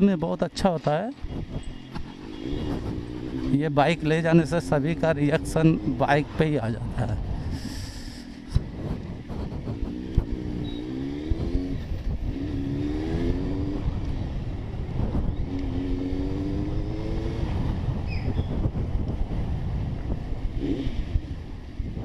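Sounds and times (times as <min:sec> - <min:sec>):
wind on microphone: 0:01.2 - 0:22.0
motorbike engine accelerating: 0:01.3 - 0:22.0.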